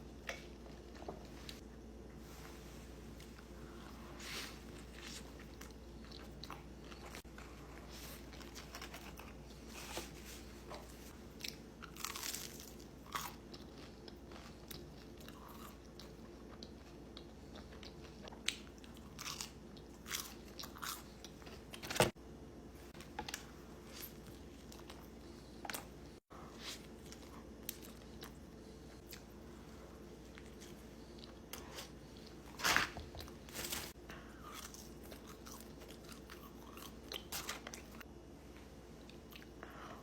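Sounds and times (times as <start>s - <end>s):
crunching and chewing food: 3.3s - 40.0s.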